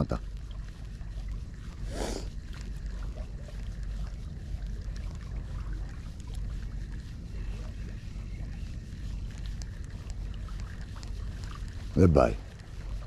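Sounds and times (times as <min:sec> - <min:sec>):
faint small ticks: 0:00.1 - 0:13.0.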